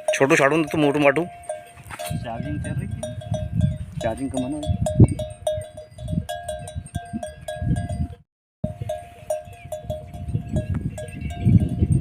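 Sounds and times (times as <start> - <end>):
metal bells clinking: 0.0 - 12.0.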